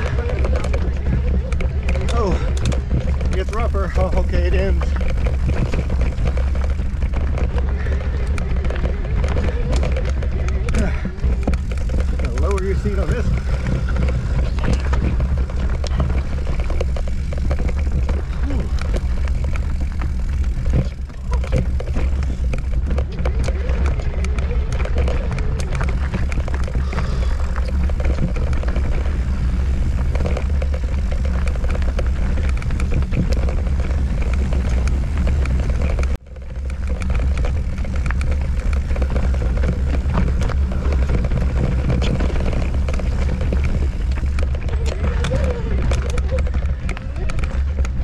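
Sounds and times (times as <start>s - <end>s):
mountain bike clattering: 0.0s - 48.0s
wind rumbling on microphone: 0.0s - 48.0s.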